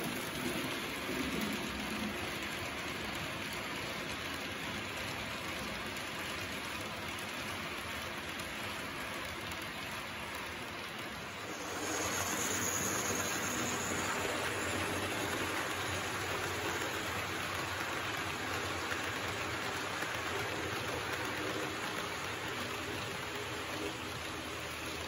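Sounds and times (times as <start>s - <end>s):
model train wheels on rails: 0.0s - 25.0s.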